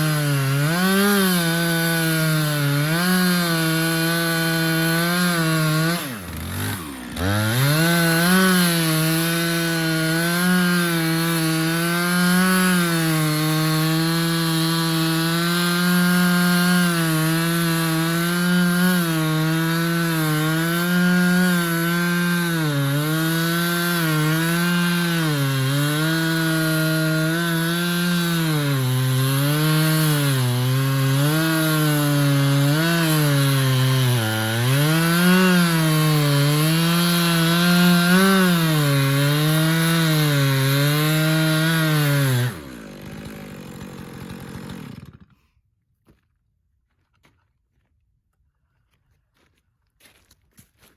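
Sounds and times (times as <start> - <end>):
chainsaw cutting through log: 0.0 - 45.6.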